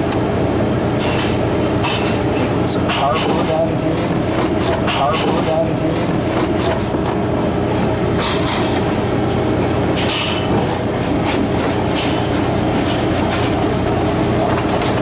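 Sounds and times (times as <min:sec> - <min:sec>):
loud machinery hum: 0:00.0 - 0:15.0.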